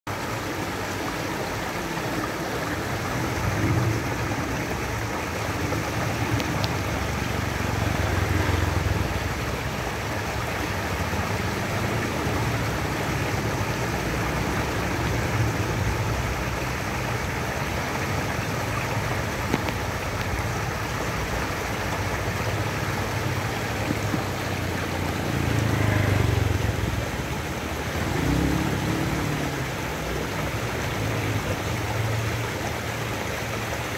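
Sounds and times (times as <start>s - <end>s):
stream water rushing over rocks: 0.1s - 33.9s.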